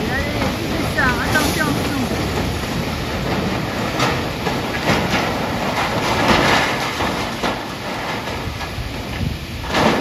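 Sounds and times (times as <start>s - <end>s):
rubble crashing and clattering: 0.0s - 10.0s
steady low rumble: 0.0s - 10.0s.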